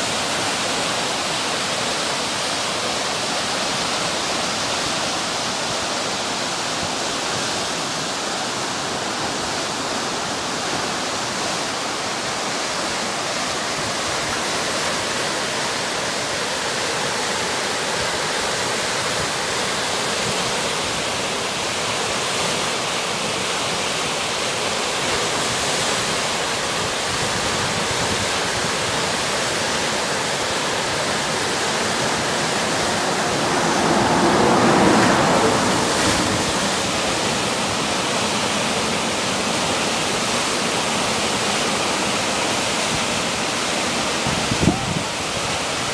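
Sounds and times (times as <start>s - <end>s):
river rapids rushing: 0.0s - 45.9s.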